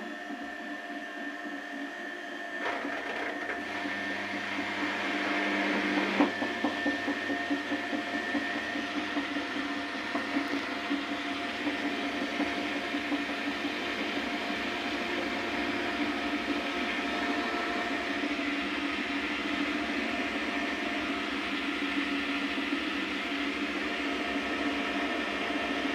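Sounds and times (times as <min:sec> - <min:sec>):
washing machine drum spinning: 0:02.6 - 0:25.9.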